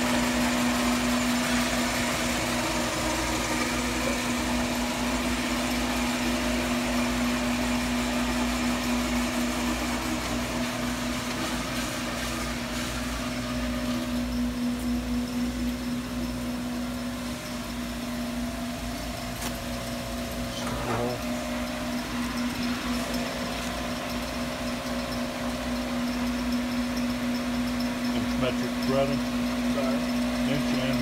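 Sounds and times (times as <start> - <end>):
lathe machine hum: 0.0 - 31.0.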